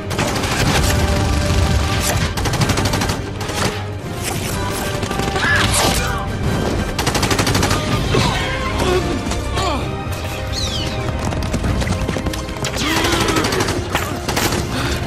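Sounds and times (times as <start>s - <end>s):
orchestral film score: 0.0s - 15.0s.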